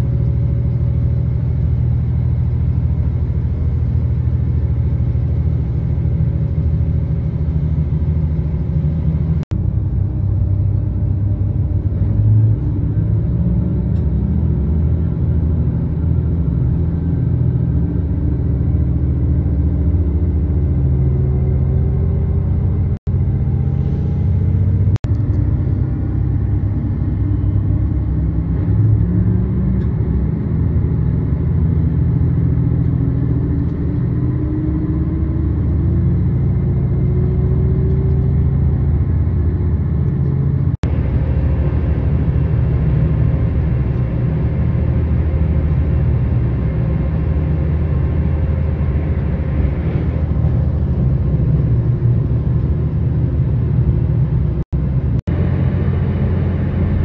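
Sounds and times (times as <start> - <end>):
diesel railcar engine rumble: 0.0 - 57.0.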